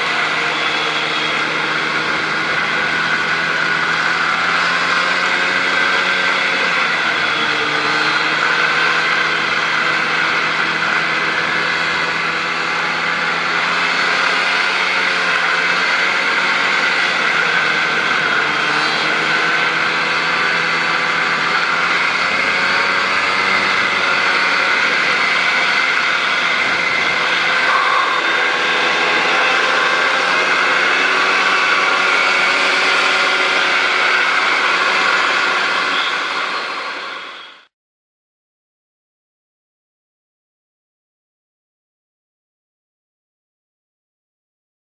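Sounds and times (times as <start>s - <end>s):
snowmobile engine running: 0.0s - 37.7s.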